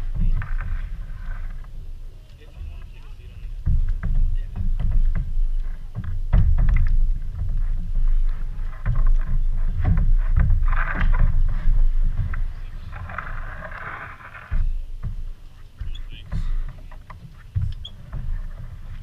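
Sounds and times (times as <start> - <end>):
kayak hull thumping against dock: 0.0 - 19.0.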